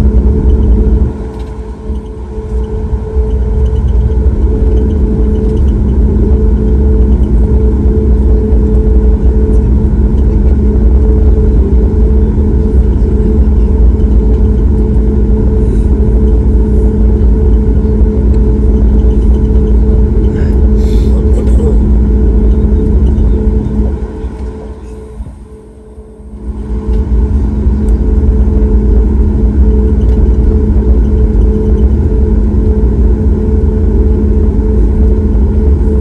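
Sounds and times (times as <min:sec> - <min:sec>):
jet engine low rumble: 0:00.0 - 0:36.0
two-tone hum: 0:00.0 - 0:36.0.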